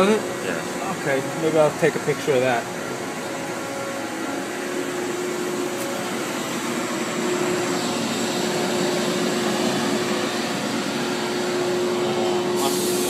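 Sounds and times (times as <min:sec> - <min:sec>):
machinery whirring hum: 0:00.0 - 0:13.0.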